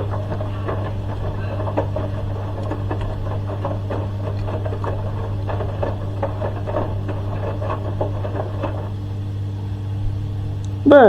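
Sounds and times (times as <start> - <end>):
clicking and rattling: 0.0 - 10.8
washing machine drain pump humming: 0.0 - 11.0.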